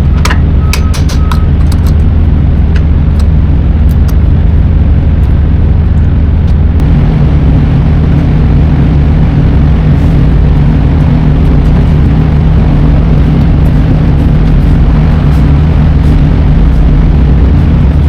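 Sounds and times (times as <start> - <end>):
diesel truck engine droning: 0.0 - 18.0.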